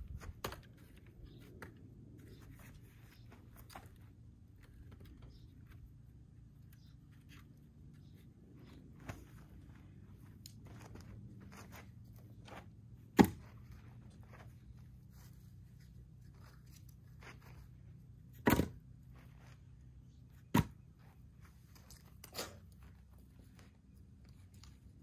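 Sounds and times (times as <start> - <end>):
small scuffs and clicks: 0.0 - 25.0.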